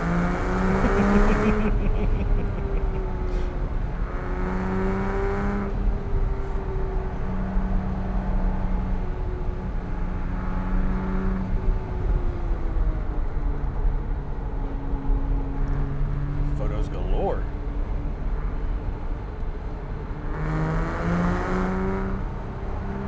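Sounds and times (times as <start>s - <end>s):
car engine accelerating: 0.0s - 16.9s, 18.2s - 23.0s.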